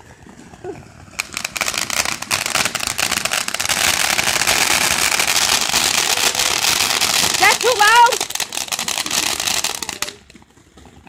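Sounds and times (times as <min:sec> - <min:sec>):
firework fountain crackling: 0:00.0 - 0:11.0.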